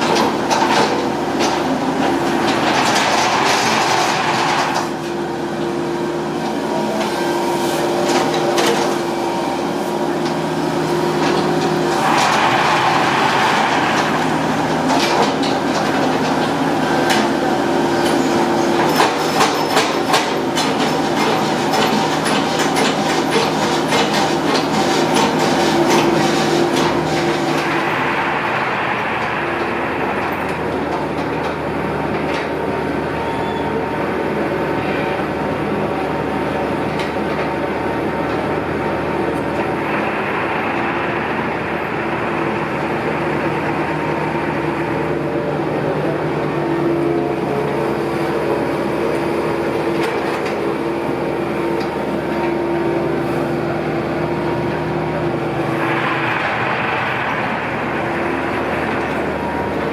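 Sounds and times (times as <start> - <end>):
heavy machinery engine running: 0.0 - 59.9.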